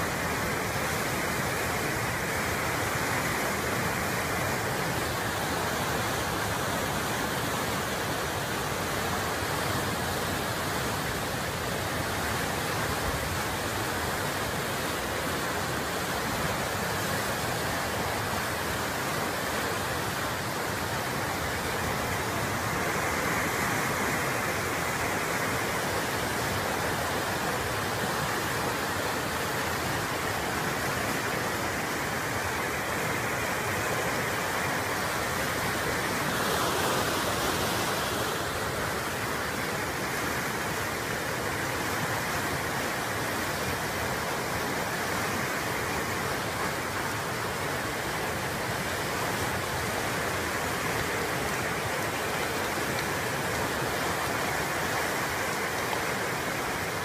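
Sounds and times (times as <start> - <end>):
flood water rushing: 0.0 - 57.0.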